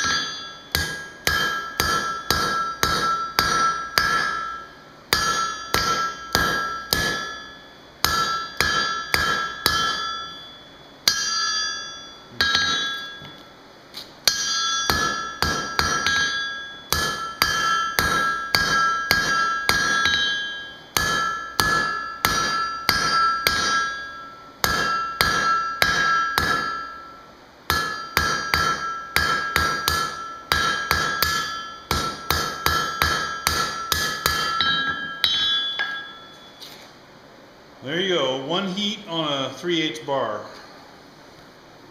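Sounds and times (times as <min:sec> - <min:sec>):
anvil ringing: 0:00.0 - 0:13.5, 0:14.2 - 0:36.8
hammer striking steel on anvil: 0:00.0 - 0:13.5, 0:14.2 - 0:36.9.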